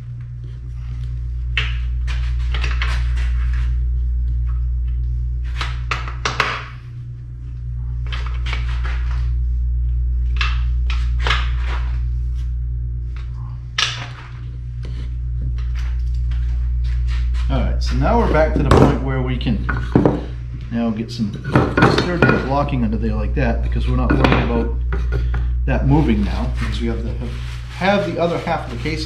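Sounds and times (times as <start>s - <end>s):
loud steady low hum: 0.0s - 29.0s.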